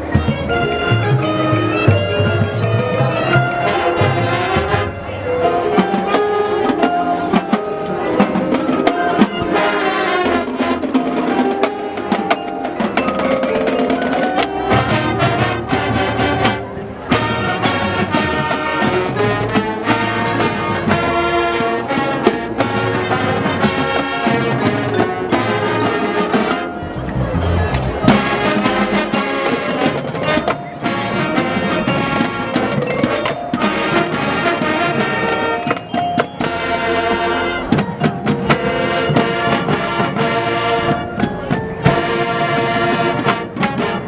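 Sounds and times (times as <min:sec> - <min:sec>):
brass melody: 0:00.0 - 0:44.0
drums and percussion: 0:00.0 - 0:44.0.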